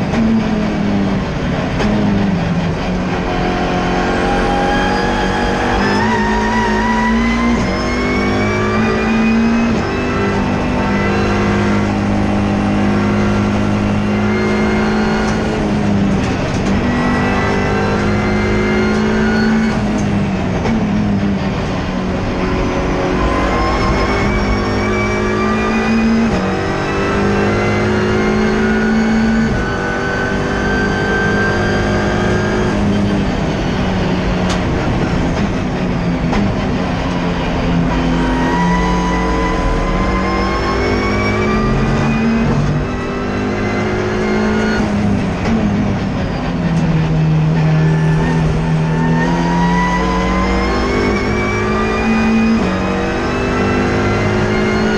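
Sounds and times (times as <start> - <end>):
race car engine at full throttle: 0.0 - 54.9.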